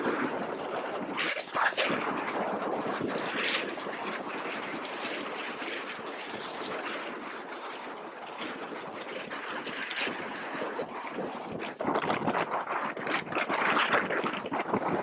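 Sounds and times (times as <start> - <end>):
motorcycle wind and road noise: 0.0 - 15.0.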